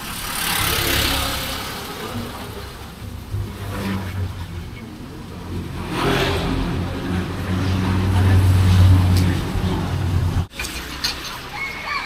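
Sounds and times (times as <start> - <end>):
vehicle engine running: 0.0 - 10.5.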